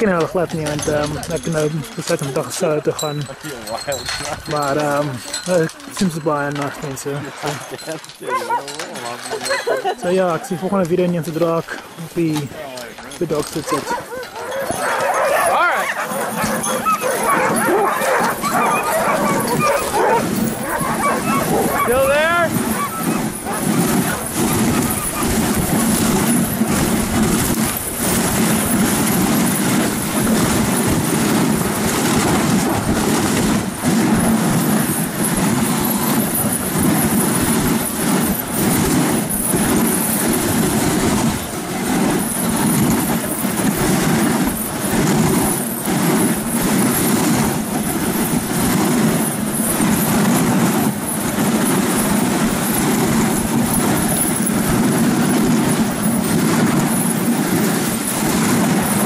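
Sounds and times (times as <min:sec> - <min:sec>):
sled runners scraping snow: 0:00.0 - 0:59.0.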